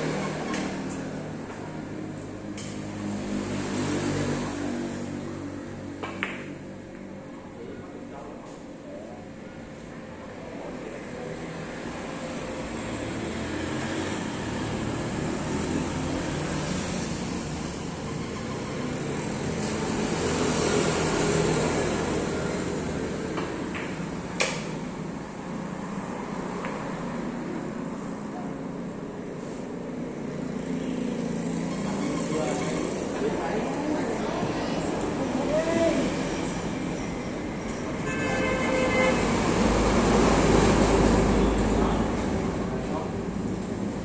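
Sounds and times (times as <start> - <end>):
steady traffic-like hum: 0.0 - 44.0.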